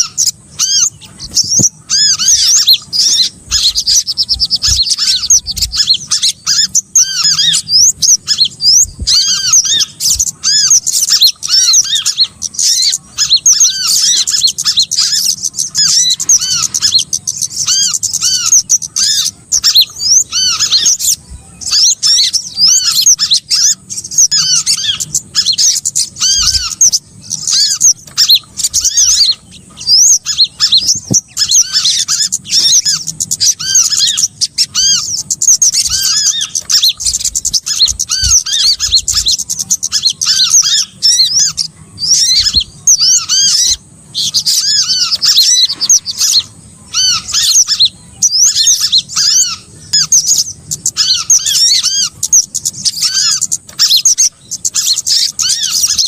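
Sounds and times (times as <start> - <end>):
chorus of small-bird calls: 0.0 - 56.0.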